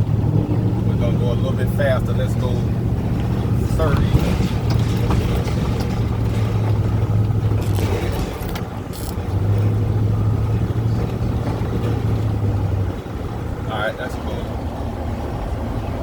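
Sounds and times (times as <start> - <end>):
vehicle engine and road hum: 0.0 - 16.0.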